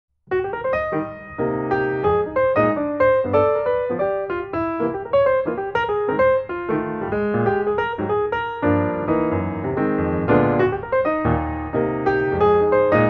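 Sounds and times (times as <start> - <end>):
piano music: 0.3 - 13.0.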